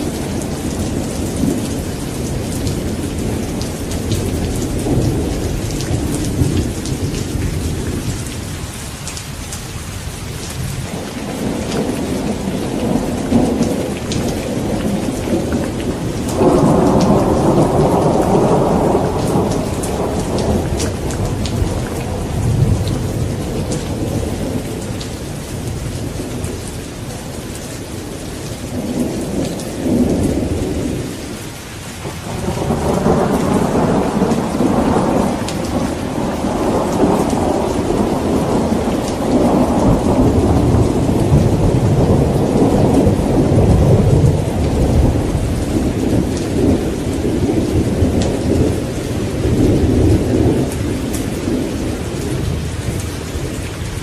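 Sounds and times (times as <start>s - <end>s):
thunder rumbling: 0.0s - 8.7s, 10.4s - 31.4s, 32.0s - 54.0s
steady rain: 0.0s - 54.0s.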